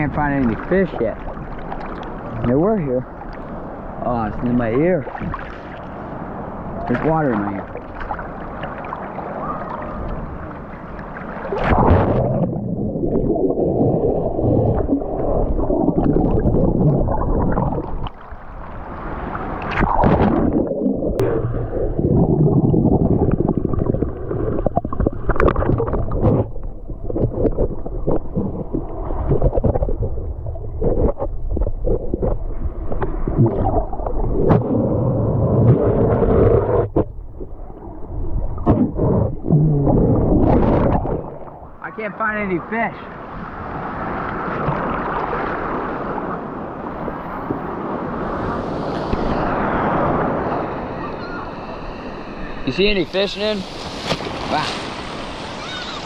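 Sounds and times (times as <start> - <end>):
muffled water gurgling and sloshing: 0.0 - 56.0.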